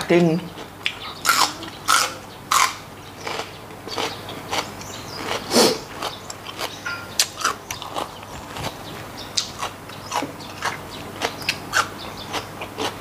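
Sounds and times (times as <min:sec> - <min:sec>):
crunchy chewing: 0:00.5 - 0:13.0.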